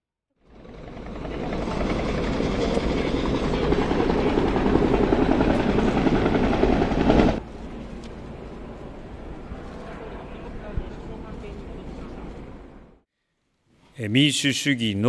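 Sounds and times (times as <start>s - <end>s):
helicopter flying low overhead: 0.4s - 13.0s.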